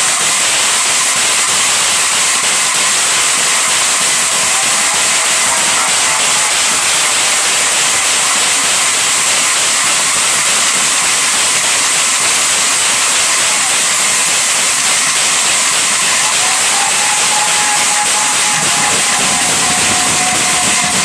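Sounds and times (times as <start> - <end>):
brass hand cymbals clashing: 0.0 - 21.0.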